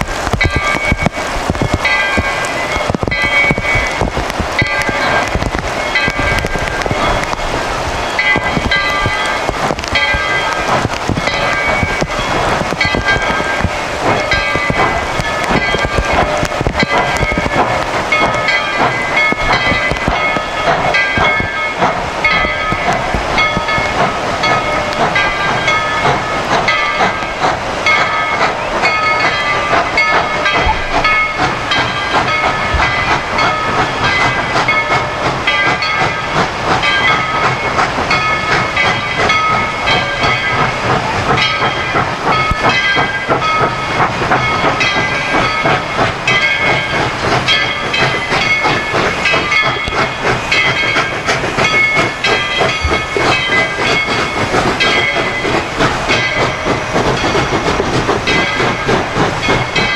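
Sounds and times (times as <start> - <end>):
steam hiss: 0.0 - 59.9
steam train running: 0.0 - 59.9.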